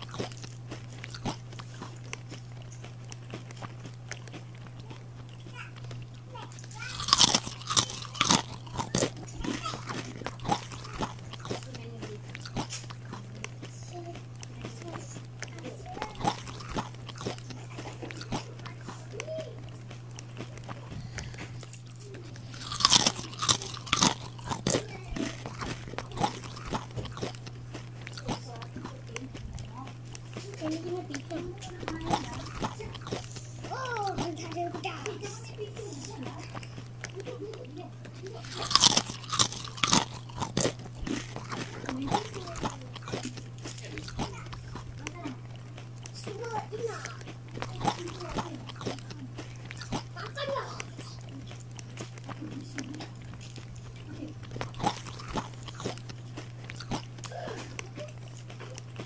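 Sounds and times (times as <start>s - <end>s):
crunching dry noodle snack: 0.0s - 59.0s
steady low hum: 0.0s - 59.0s.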